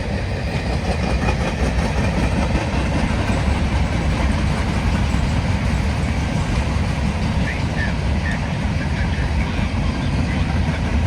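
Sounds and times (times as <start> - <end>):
freight train rumbling past: 0.0 - 11.0
wheels clicking on rails: 0.0 - 11.0.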